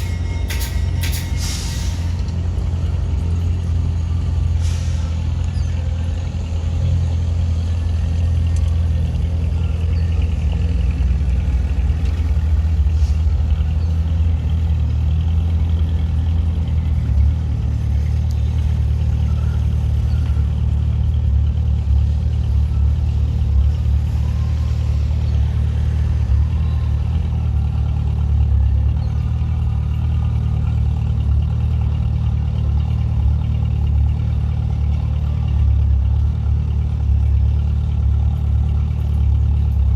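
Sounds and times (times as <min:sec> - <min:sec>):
locomotive engine rumbling: 0:00.0 - 0:39.9.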